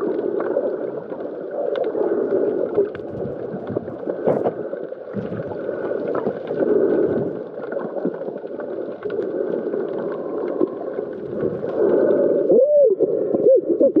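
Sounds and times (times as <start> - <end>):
underwater gurgling wash: 0.0 - 14.0.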